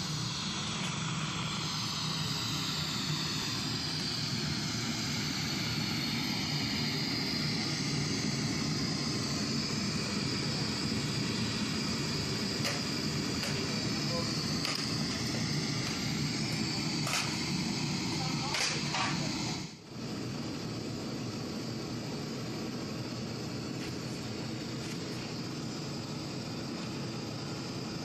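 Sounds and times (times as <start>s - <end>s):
gas burner roaring in furnace: 0.0s - 28.0s.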